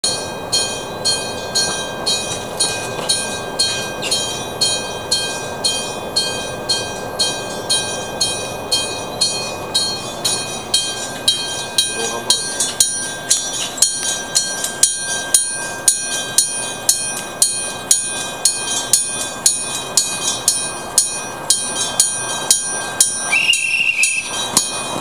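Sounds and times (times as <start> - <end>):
electric warning bell ringing: 0.0 - 25.0
train running noise: 0.0 - 25.0.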